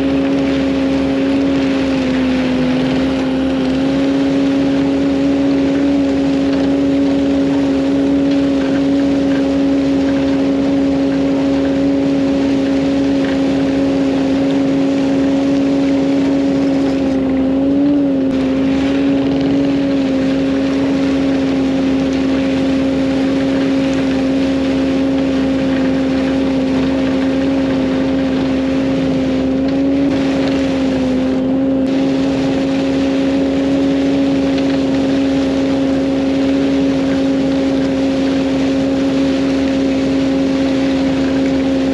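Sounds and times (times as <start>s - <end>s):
heavy machine engine whining: 0.0s - 41.9s.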